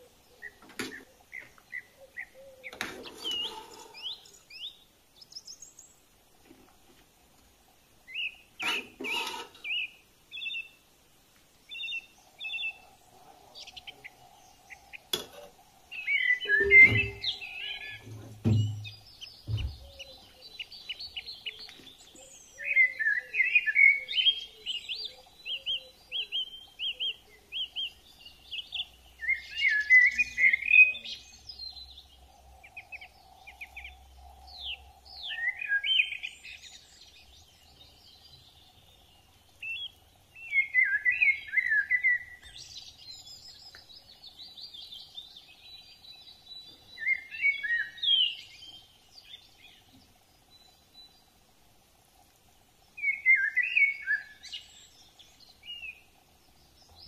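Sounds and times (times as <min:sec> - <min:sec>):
birds chirping and warbling: 0:00.0 - 0:57.0.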